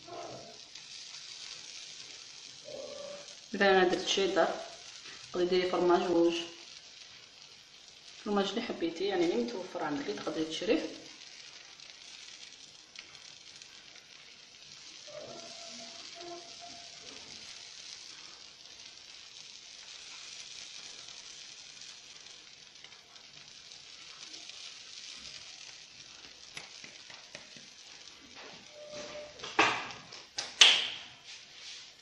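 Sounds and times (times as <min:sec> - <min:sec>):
pizza base sizzling in pan: 0:00.0 - 0:32.0.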